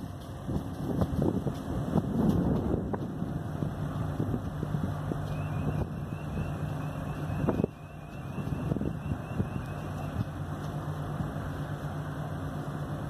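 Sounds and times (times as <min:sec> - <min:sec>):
wind noise on microphone: 0:00.0 - 0:11.5
diesel engine rumble: 0:00.0 - 0:13.0.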